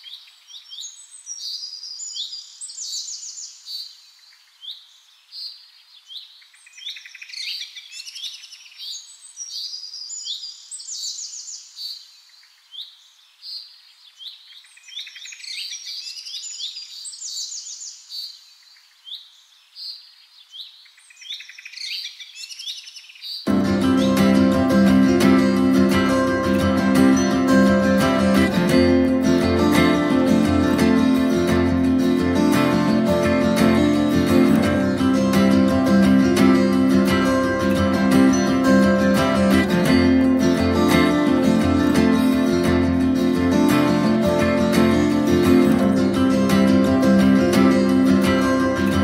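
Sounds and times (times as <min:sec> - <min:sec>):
small birds chirping: 0:00.0 - 0:43.7.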